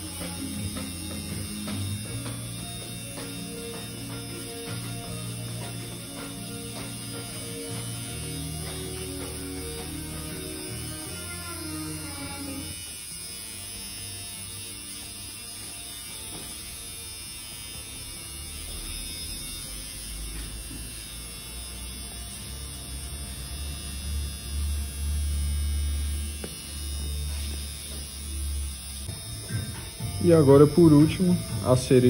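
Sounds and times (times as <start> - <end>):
faint background music: 0.0 - 20.5, 21.4 - 32.0
low electric buzzing hum: 0.0 - 32.0.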